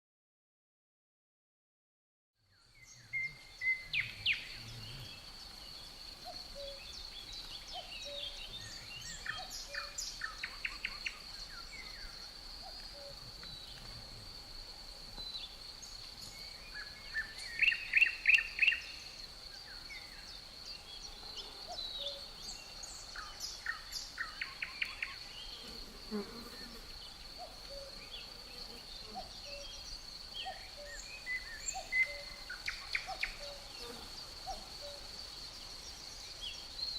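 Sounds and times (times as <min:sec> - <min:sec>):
songbirds singing: 0:02.4 - 0:36.9
crickets trilling: 0:02.5 - 0:36.9.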